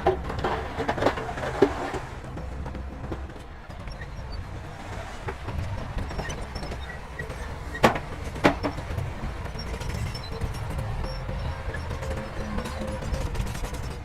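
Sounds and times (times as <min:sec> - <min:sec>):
diesel engine low rumble: 0:00.0 - 0:14.0.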